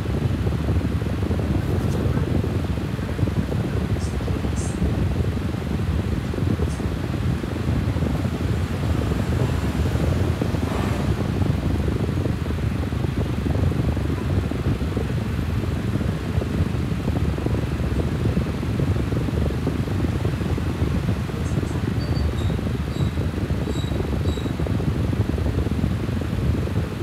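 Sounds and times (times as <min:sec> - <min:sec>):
low rumble of moving air: 0:00.0 - 0:27.0.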